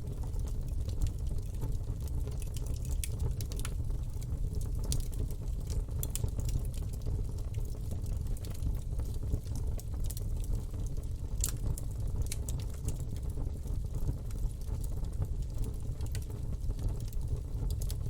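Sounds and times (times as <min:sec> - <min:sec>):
campfire crackles and pops: 0:00.0 - 0:18.0
campfire rumble: 0:00.0 - 0:18.0.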